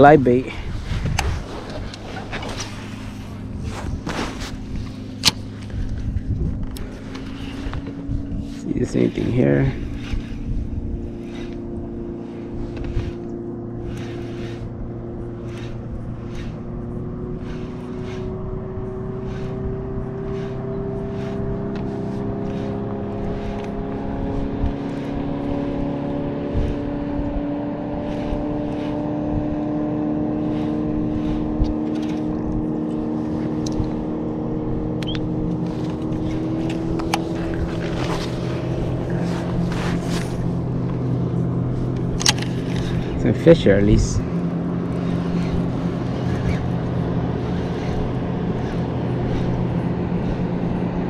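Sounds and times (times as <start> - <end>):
motor hum rising in pitch: 0.0 - 51.0.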